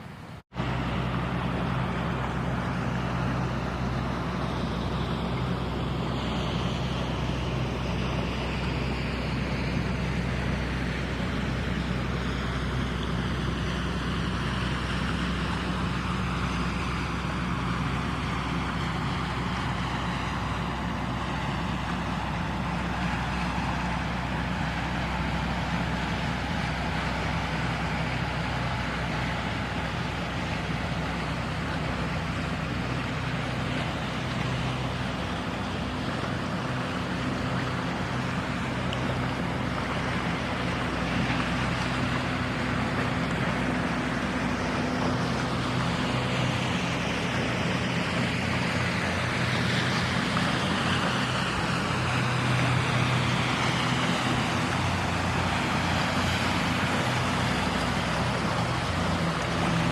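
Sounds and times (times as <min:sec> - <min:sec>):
vehicle engine drone: 0:00.0 - 0:59.9.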